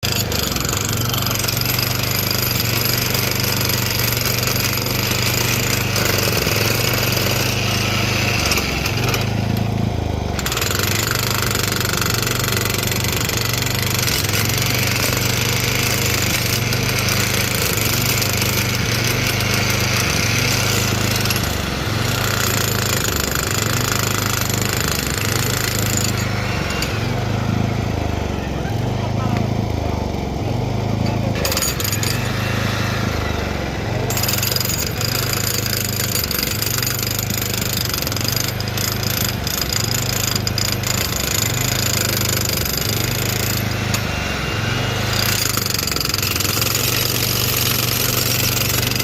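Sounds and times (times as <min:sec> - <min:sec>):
jackhammer chipping concrete: 0:00.0 - 0:49.0.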